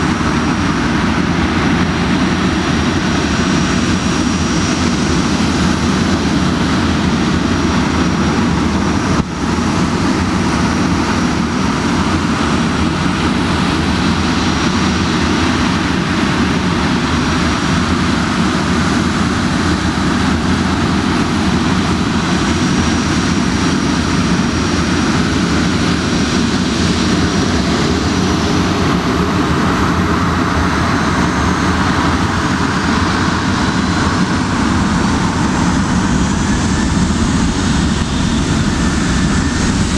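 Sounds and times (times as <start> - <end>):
high thin engine whine: 0.0 - 39.9
jet engines roaring: 0.0 - 39.9.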